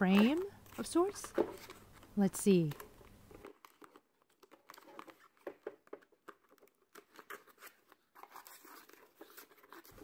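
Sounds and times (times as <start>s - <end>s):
packaging box clicks and rustles: 0.0s - 10.0s.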